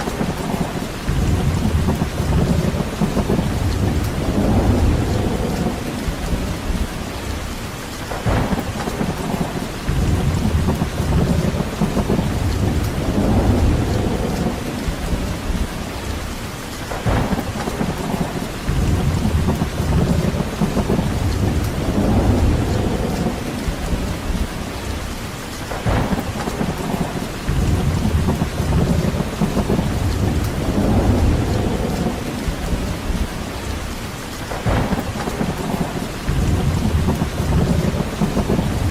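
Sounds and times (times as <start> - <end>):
low thunder rumbles: 0.0 - 38.9
sharp thunder cracks: 0.0 - 38.9
steady rain: 0.0 - 38.9.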